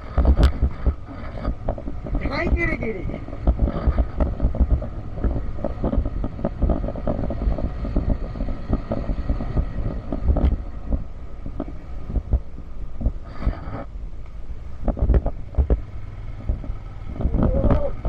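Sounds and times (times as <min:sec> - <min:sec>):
knocks and rattles over stones: 0:00.0 - 0:13.9, 0:14.8 - 0:18.0
wind on microphone: 0:00.0 - 0:14.0, 0:14.6 - 0:18.0
motorcycle running slowly: 0:00.0 - 0:18.0.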